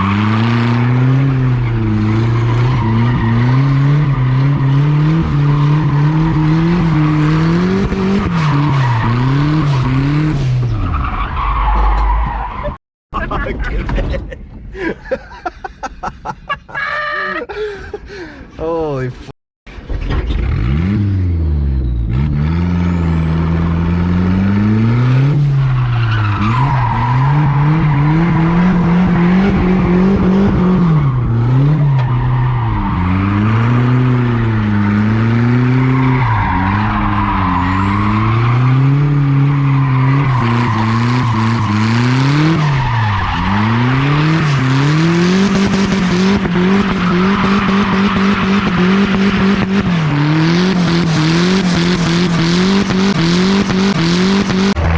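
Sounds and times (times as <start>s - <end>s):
engine revving: 0.0s - 10.8s, 20.3s - 54.9s
tires squealing on pavement: 0.0s - 12.8s, 21.7s - 54.9s.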